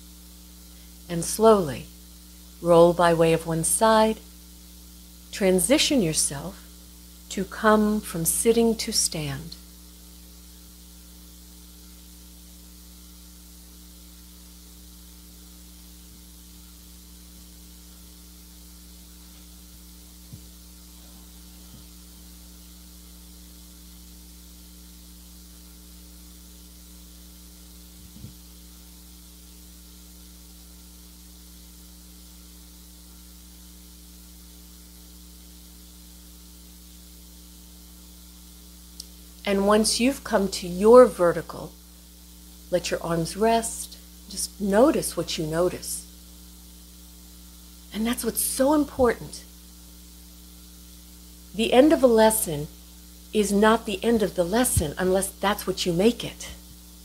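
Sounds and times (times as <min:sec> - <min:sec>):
constant hiss: 0:00.0 - 0:57.0
electrical mains hum: 0:00.0 - 0:57.0.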